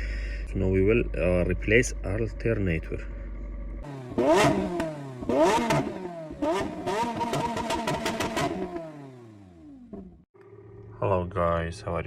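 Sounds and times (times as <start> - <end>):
engine revving: 0.7 - 11.1.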